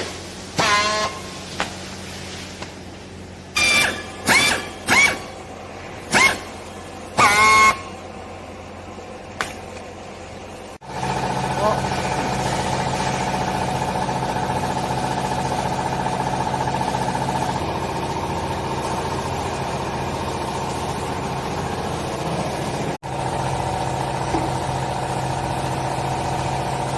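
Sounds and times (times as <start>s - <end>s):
hydraulic pump whine: 0.0s - 1.5s, 3.4s - 26.9s
baler motor hum: 3.4s - 26.9s.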